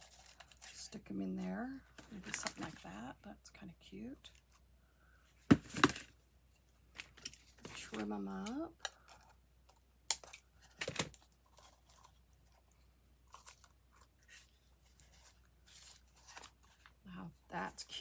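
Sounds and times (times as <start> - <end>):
faint handling noises: 0.0 - 3.2, 4.2 - 17.0.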